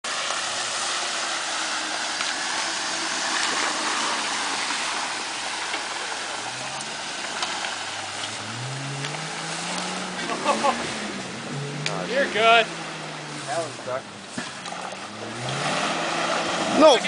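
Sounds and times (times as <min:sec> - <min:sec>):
car engine revving: 0:00.0 - 0:17.0
water splashing around vehicle: 0:00.0 - 0:17.0.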